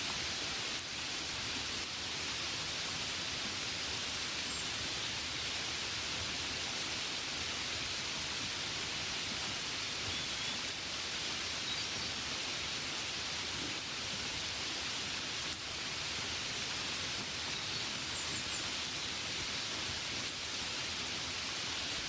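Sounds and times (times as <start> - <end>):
gentle rain: 0.0 - 22.0.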